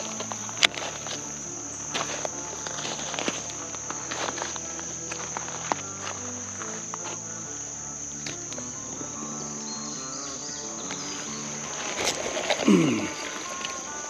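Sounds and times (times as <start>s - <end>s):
insects singing: 0.0s - 14.0s
soft background music: 0.0s - 14.0s.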